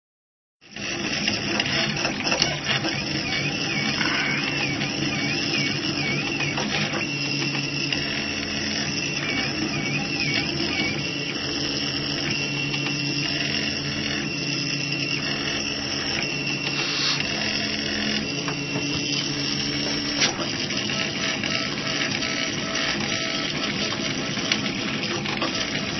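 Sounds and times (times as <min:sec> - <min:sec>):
stepper motors whining: 0:00.6 - 0:25.9.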